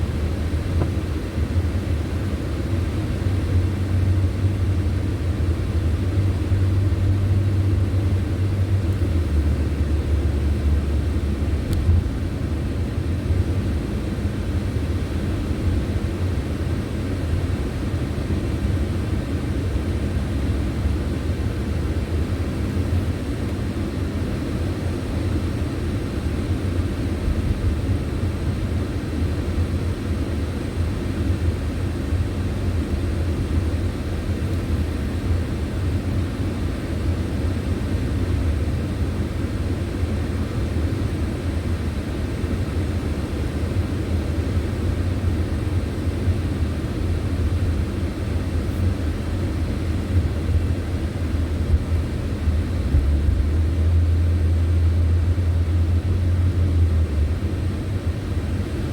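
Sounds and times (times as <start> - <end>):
car engine and tyres rumble: 0.0 - 58.9.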